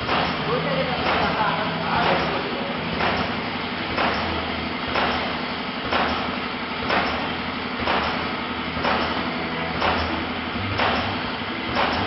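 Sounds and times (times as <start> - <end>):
packing machine running: 0.0 - 12.0.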